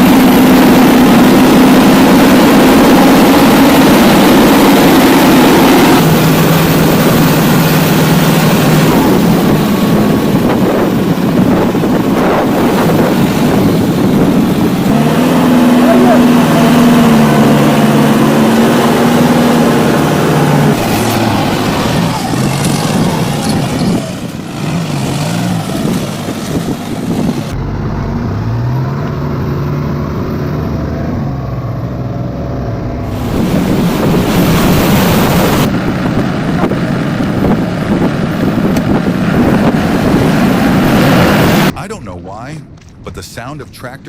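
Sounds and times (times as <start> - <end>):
tractor engines revving: 0.0 - 44.0.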